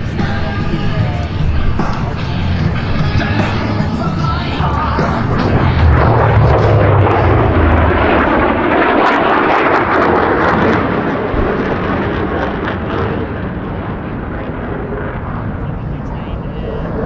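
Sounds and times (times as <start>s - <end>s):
jet aircraft roaring past: 0.0s - 17.0s.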